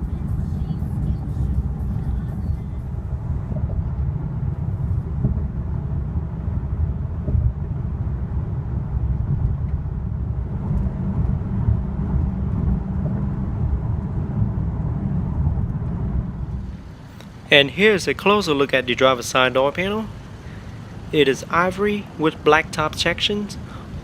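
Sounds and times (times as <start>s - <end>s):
road rumble inside car: 0.0s - 24.0s.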